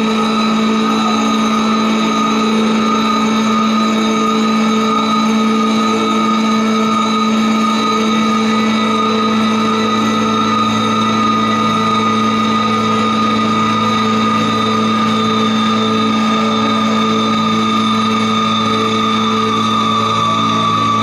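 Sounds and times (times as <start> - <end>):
instruments droning a chord: 0.0 - 21.0.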